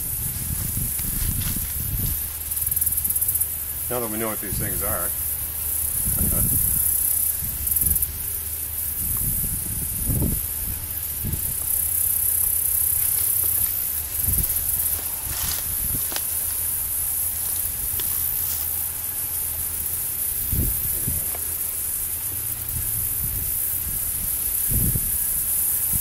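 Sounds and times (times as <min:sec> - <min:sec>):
wind rumble on microphone: 0:00.0 - 0:18.6, 0:20.2 - 0:26.0
steady high hiss: 0:00.0 - 0:26.0.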